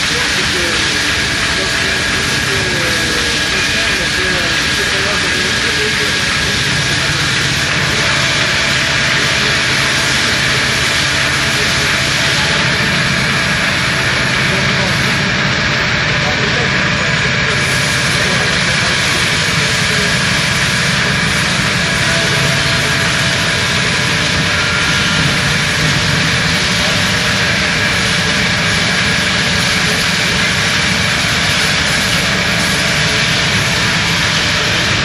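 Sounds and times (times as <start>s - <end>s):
industrial machinery running: 0.0s - 35.0s.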